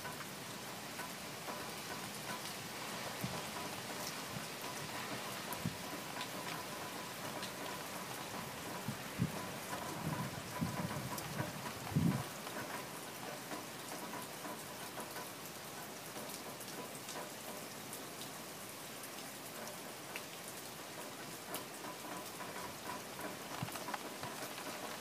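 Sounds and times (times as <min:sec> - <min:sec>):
rain falling: 0:00.0 - 0:25.0
raindrops ticking and splashing: 0:00.0 - 0:25.0.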